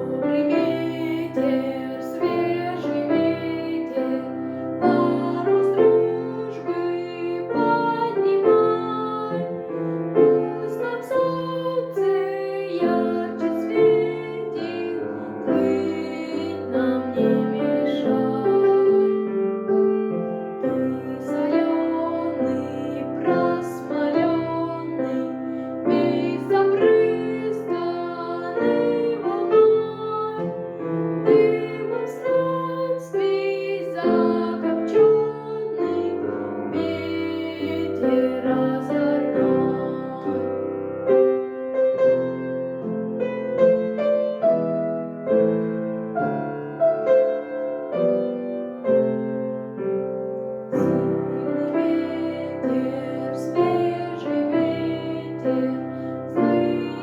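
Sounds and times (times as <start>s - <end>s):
piano piece: 0.0s - 57.0s.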